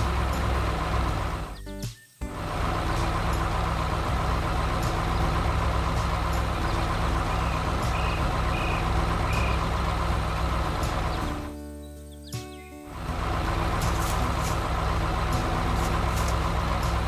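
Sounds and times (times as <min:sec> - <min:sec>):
diesel engine running: 0:00.0 - 0:11.6, 0:12.8 - 0:17.0.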